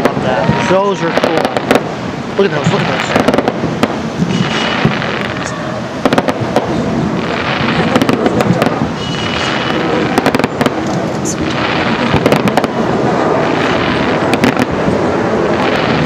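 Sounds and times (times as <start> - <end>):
crackling pops: 0.0 - 2.0, 2.6 - 12.8, 13.4 - 14.9
fireworks bursts rumbling: 0.0 - 16.0.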